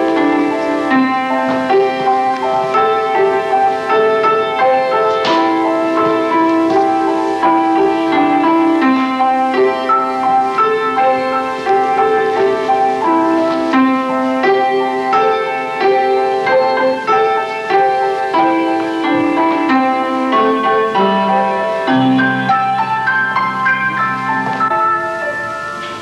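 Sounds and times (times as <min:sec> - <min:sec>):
slow instrumental melody: 0:00.0 - 0:26.0.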